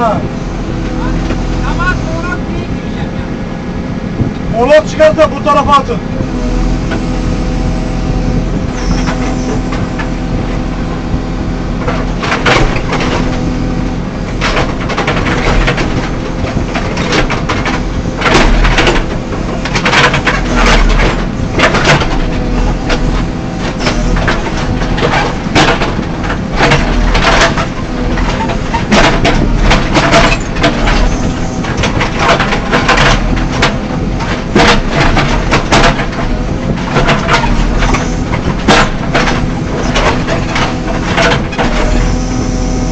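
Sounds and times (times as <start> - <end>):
diesel engine running: 0.0 - 42.9
bucket clanking and scraping: 6.3 - 42.9.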